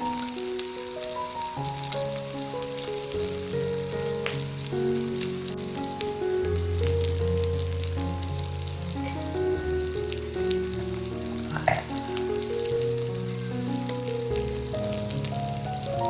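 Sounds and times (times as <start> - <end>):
background music of held notes: 0.0 - 16.0
meat sizzling on grill plate: 0.0 - 16.0.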